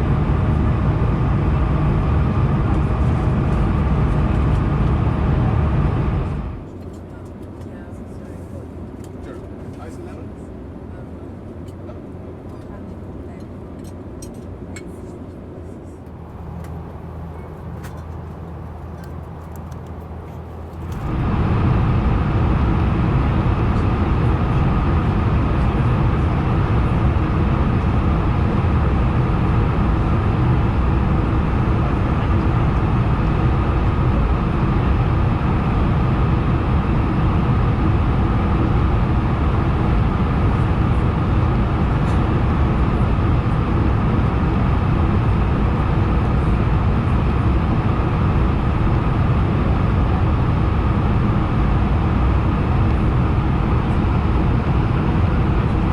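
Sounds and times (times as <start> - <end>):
airliner cabin hum: 0.0 - 55.9
jet engine and airflow rush: 0.0 - 55.9.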